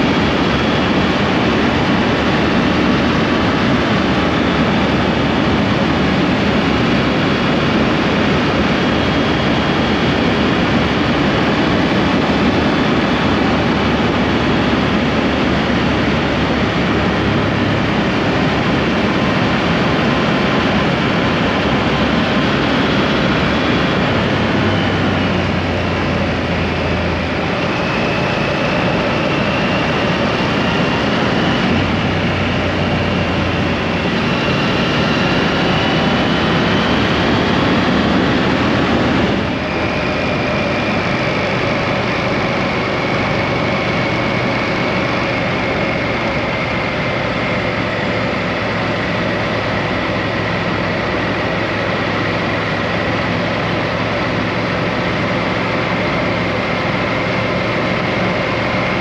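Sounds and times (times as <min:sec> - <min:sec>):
motorcycle road noise: 0:00.0 - 0:59.0
wind rushing on microphone: 0:00.0 - 0:59.0.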